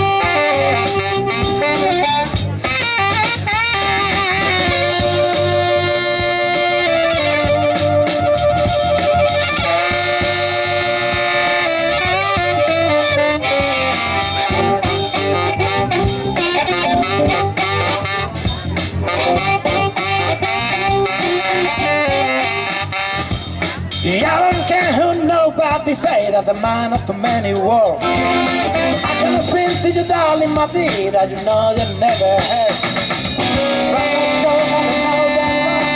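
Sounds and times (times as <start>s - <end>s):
live blues band playing: 0.0s - 35.9s.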